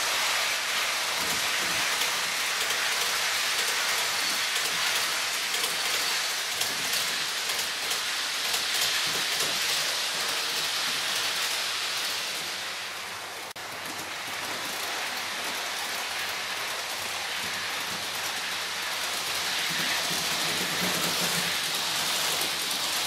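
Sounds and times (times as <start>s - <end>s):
model train wheels rattling on rail: 0.0s - 23.0s.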